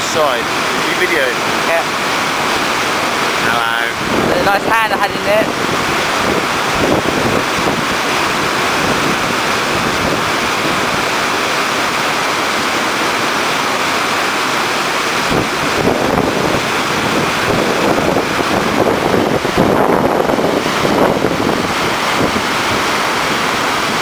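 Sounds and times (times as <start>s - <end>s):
white water rushing over weir: 0.0s - 24.0s.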